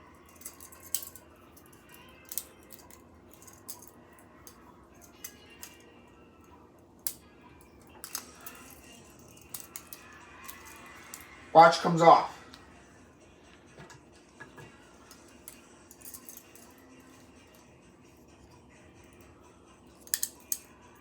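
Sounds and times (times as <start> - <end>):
toy handcuffs clicking and rattling: 0.0 - 11.4, 14.9 - 21.0.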